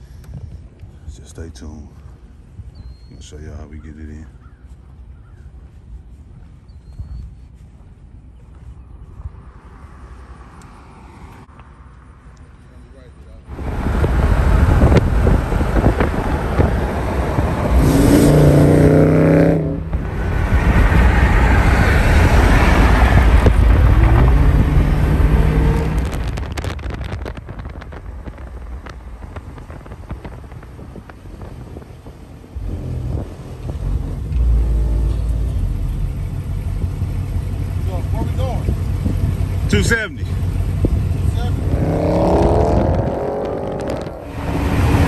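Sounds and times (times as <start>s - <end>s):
car engine rumbling: 0.0s - 45.0s
road noise: 0.0s - 45.0s.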